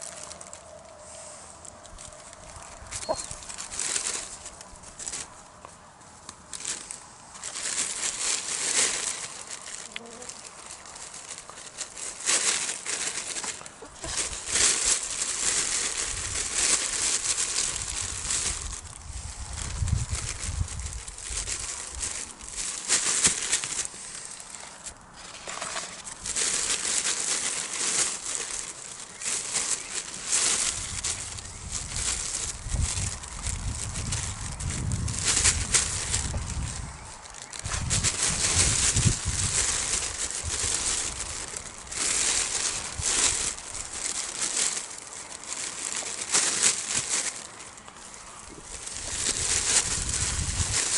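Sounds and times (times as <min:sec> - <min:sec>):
plastic bag rustling: 0:00.0 - 0:50.9.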